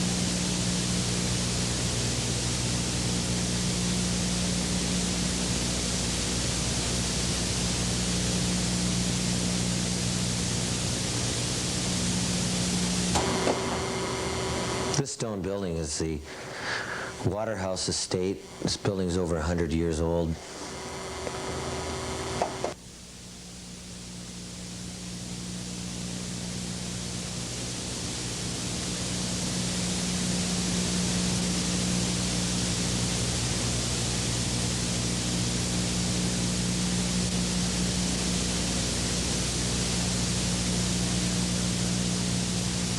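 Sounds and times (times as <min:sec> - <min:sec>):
low hum: 0:00.0 - 0:42.9
steady hiss: 0:00.0 - 0:42.9.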